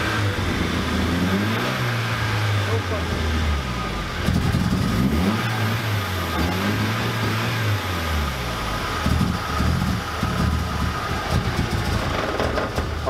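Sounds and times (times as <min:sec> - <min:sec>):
car engine running unevenly: 0:00.0 - 0:13.0.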